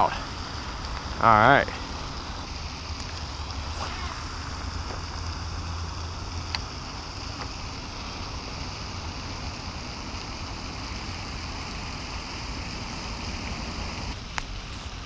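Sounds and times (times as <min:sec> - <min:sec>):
fountain spraying water: 0:00.0 - 0:15.0.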